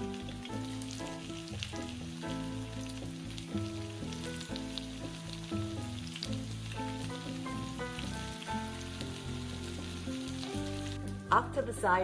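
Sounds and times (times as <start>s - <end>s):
background music: 0.0s - 12.0s
food sizzling in hot oil: 0.0s - 12.0s.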